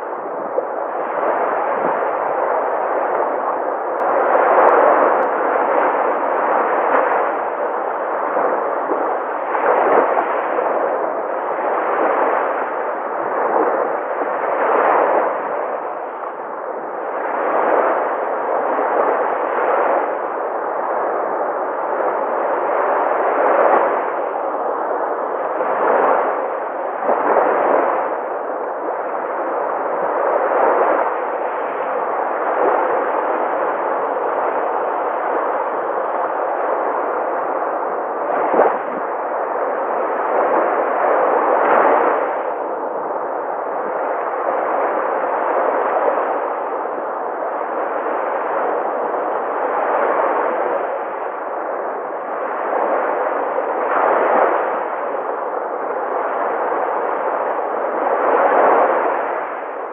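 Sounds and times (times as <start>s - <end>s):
sea waves breaking on shore: 0.0s - 59.9s
wave crashing: 0.0s - 59.9s.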